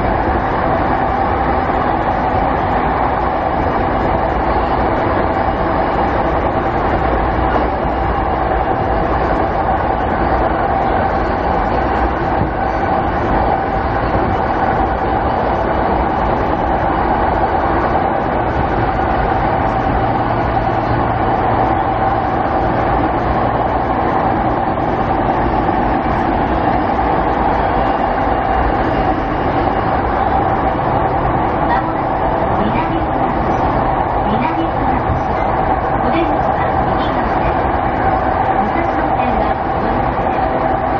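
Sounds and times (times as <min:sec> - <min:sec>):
low drone: 0:00.0 - 0:40.9
steady mid-pitched hum: 0:00.0 - 0:40.9
wheel and rail rolling noise: 0:00.0 - 0:40.9.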